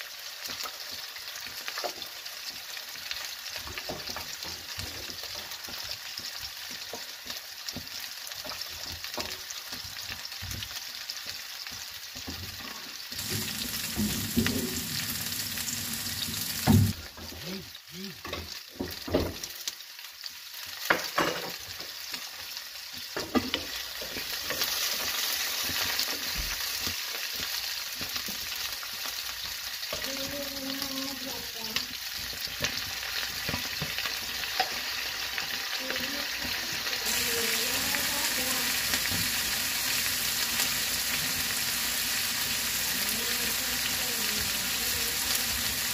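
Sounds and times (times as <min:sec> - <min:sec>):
vegetables sizzling in a frying pan: 0:00.0 - 0:45.9.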